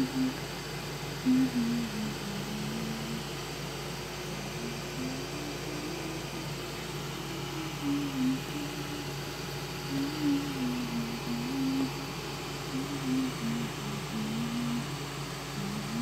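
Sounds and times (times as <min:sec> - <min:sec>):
soft slow low tune: 0:00.0 - 0:00.4, 0:01.2 - 0:03.4, 0:04.2 - 0:16.0
steady background hiss: 0:00.0 - 0:16.0.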